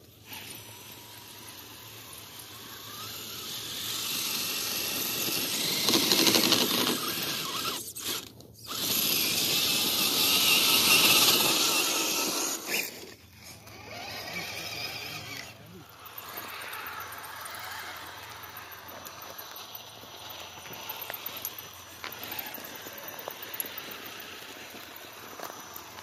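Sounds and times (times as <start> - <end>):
electric motor and gear whine: 0.0 - 26.0
tyres crunching on gravel: 4.6 - 26.0.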